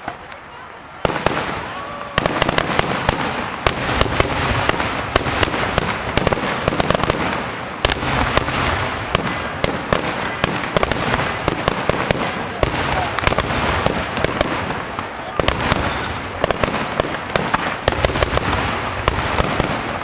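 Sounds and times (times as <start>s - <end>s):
fireworks crackling and popping: 0.0s - 20.0s
loud firework bang: 1.0s - 20.0s.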